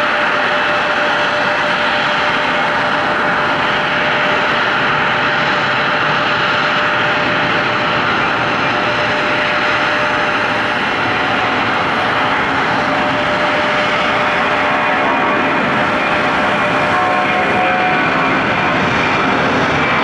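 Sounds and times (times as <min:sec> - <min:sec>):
jet engines at takeoff power: 0:00.0 - 0:20.0
thin steady whine: 0:00.0 - 0:20.0.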